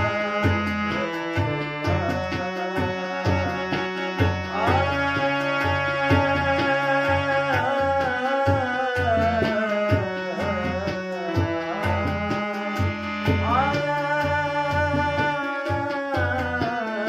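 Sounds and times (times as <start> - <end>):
hand drum rhythm: 0.0 - 17.0
harmonium playing chords: 0.0 - 17.0
man singing: 0.0 - 17.0.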